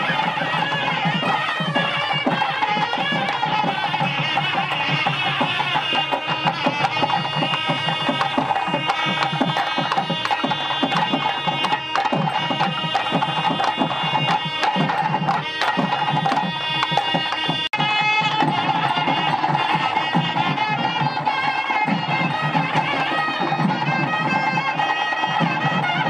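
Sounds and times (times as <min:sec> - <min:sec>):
double-reed pipes playing: 0:00.0 - 0:26.0
drum beat: 0:00.0 - 0:26.0.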